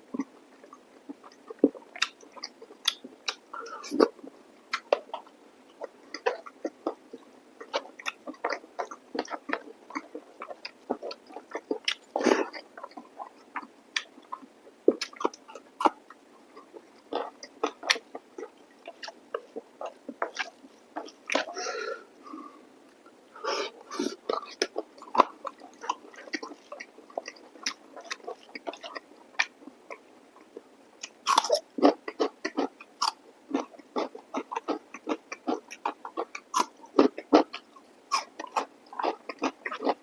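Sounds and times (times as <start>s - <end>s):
person chewing food: 0.2s - 40.0s.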